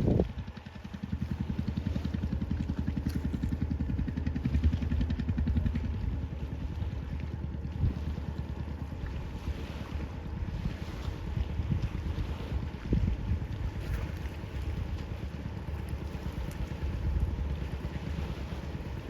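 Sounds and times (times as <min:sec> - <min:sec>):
engine chugging: 0:00.0 - 0:19.0.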